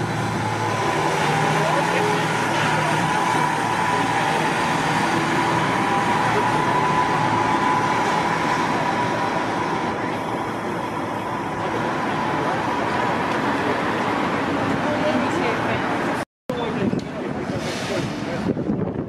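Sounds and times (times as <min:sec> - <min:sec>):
bus road noise: 0:00.0 - 0:19.0.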